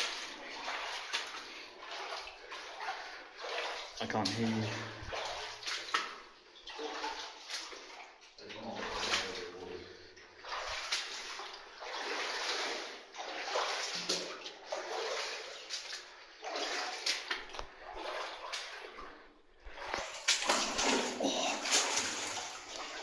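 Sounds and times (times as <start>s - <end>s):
feet wading through water: 0.0s - 23.0s.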